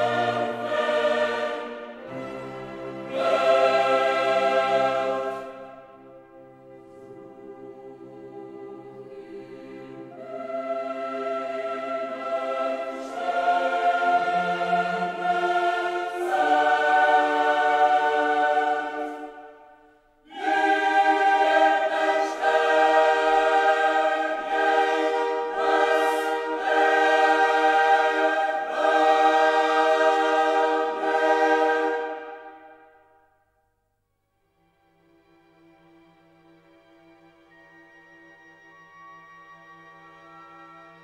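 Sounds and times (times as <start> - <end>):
choir singing held chords: 0.0 - 33.4.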